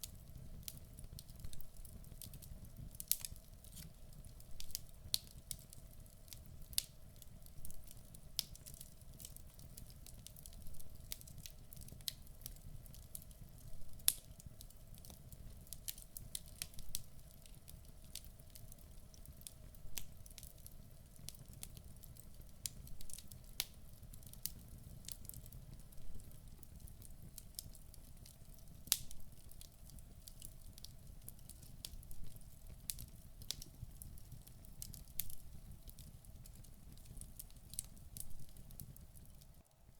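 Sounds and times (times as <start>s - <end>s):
burning logs crackling: 0.0s - 39.9s
low rumble of flames: 0.0s - 39.9s.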